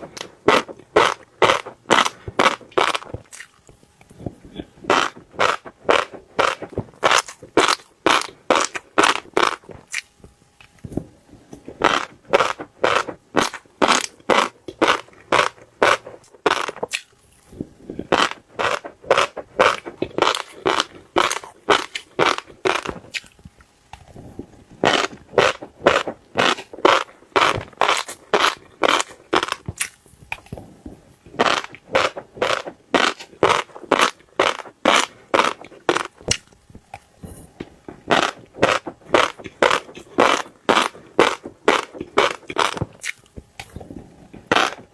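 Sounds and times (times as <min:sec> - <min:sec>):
fish roe crackling popping: 0:00.0 - 0:44.9.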